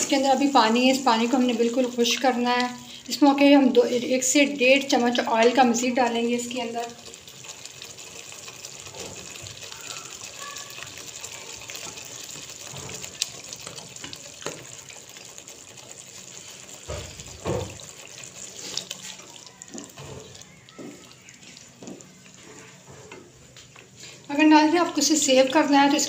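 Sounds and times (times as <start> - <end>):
chutney bubbling in a wok: 0.0 - 26.0.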